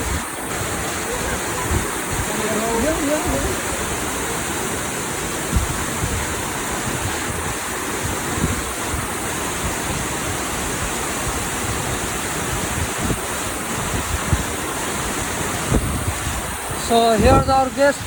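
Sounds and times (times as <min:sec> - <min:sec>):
waterfall roaring: 0:00.0 - 0:18.0
wind buffeting microphone: 0:00.0 - 0:18.0.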